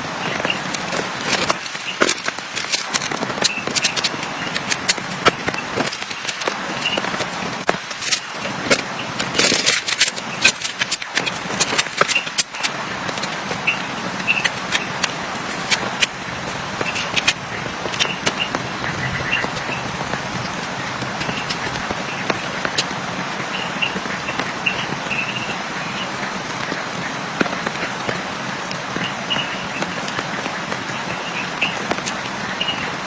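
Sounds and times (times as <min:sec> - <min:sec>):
heavy rain hissing: 0:00.0 - 0:33.0
sharp rain taps and crackles: 0:00.0 - 0:33.0.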